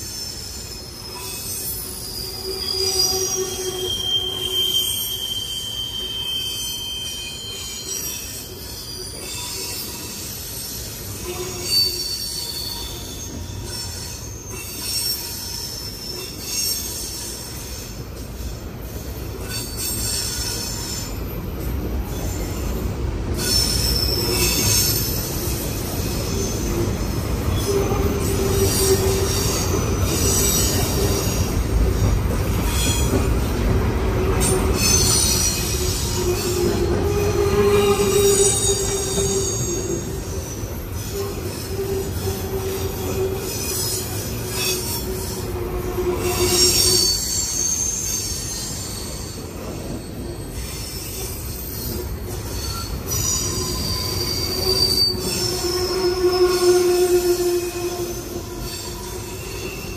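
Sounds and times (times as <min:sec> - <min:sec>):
freight train rumbling past: 0:00.0 - 0:59.9
train wheels squealing: 0:00.0 - 0:59.9.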